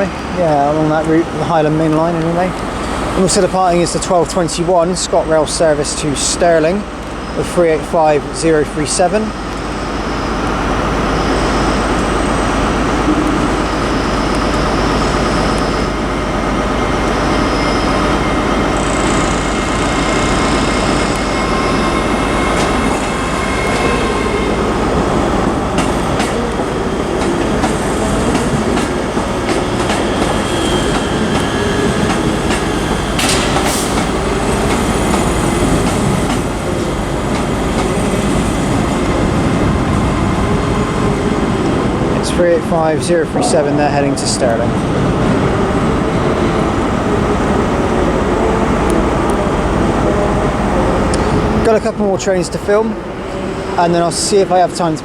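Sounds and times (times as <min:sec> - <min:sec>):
high wheel squeal: 0:00.0 - 0:55.0
train wheels rumbling on track: 0:00.0 - 0:55.0.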